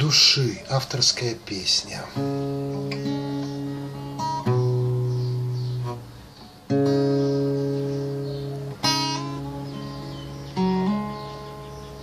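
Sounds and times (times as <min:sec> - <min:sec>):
acoustic guitar strummed chords: 0:02.1 - 0:12.0.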